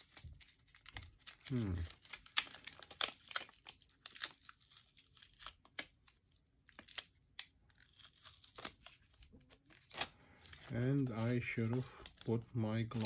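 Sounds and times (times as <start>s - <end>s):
plastic sleeves crinkling: 0.0s - 13.0s.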